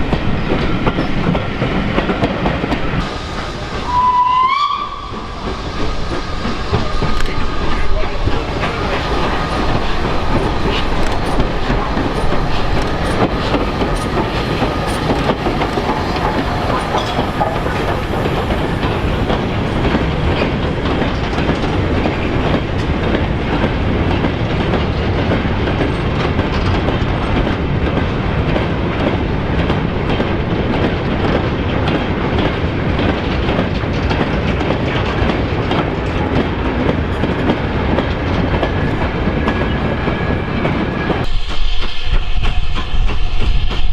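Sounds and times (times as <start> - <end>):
train wheels clattering: 0.0 - 43.9.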